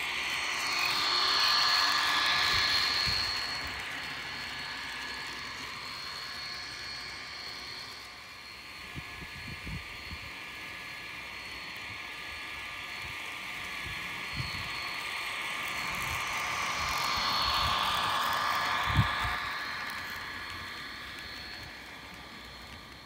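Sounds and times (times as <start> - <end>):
model train whirring on track: 0.0 - 23.0.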